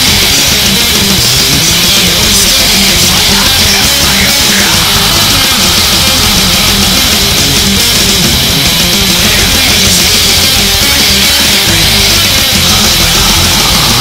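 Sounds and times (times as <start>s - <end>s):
distorted electric guitars: 0.0s - 14.0s
drums: 0.0s - 14.0s.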